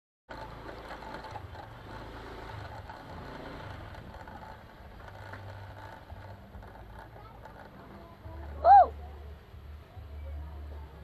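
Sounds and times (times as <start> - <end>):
scooter engine running: 0.3 - 11.0.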